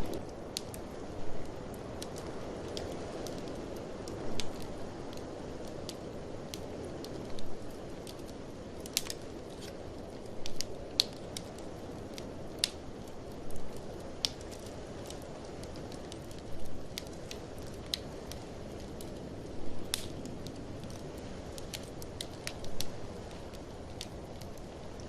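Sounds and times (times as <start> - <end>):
blizzard wind rushing: 0.0 - 25.0
wood fire crackling and popping: 0.0 - 25.0.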